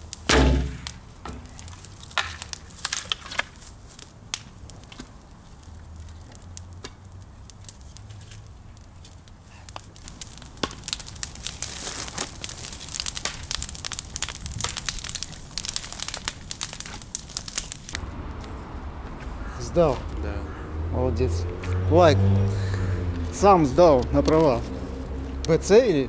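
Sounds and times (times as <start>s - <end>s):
wood fire crackling and popping: 0.0s - 20.4s, 22.3s - 26.0s.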